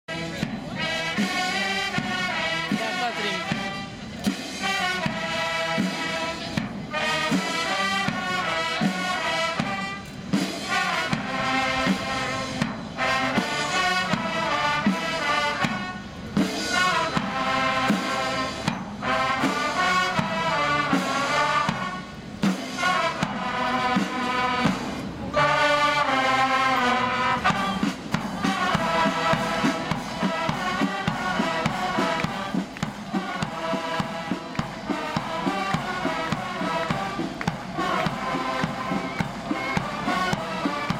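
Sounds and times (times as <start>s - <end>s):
marching brass band playing: 0.0s - 40.9s.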